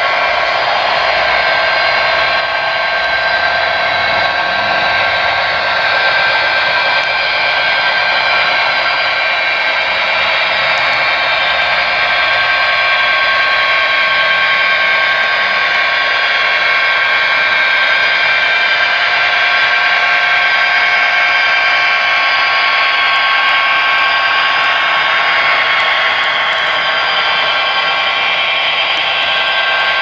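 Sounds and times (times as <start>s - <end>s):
model train whirring on track: 0.0s - 30.0s.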